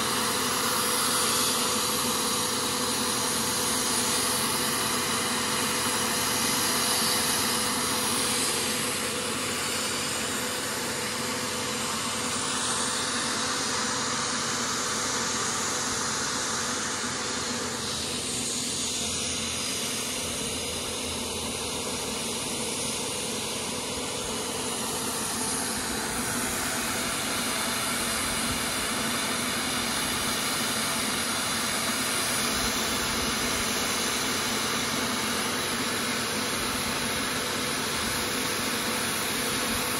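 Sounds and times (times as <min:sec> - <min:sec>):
paint sprayer hissing: 0:00.0 - 0:21.1, 0:22.0 - 0:39.9.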